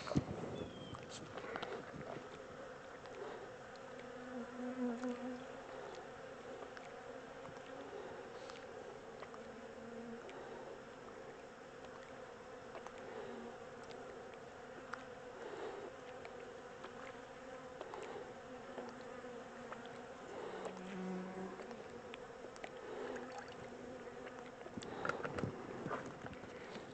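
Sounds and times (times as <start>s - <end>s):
bees buzzing: 0.0s - 26.9s.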